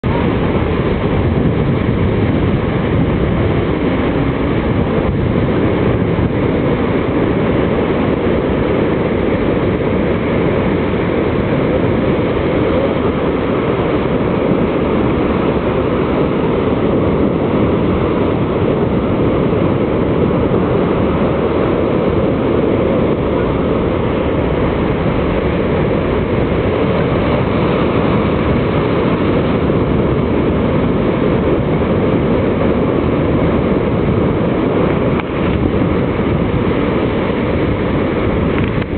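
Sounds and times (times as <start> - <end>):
heavy waves breaking: 0.0 - 38.9.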